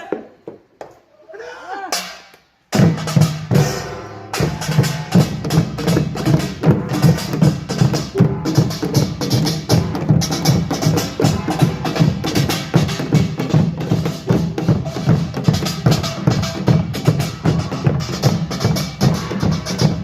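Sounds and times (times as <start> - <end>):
drums beating: 1.8 - 20.0.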